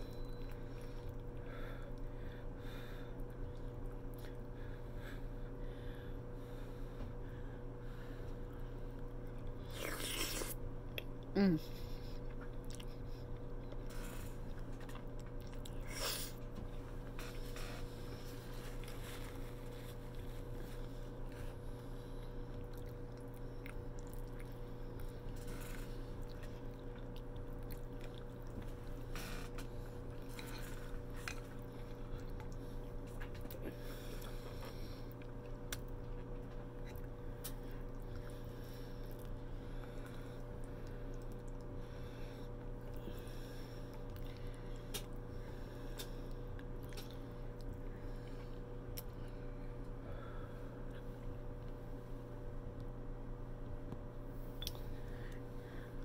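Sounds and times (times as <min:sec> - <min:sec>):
person chewing wet food: 0:00.0 - 0:05.4, 0:08.2 - 0:50.0, 0:54.5 - 0:55.9
steady low hum: 0:00.0 - 0:56.0.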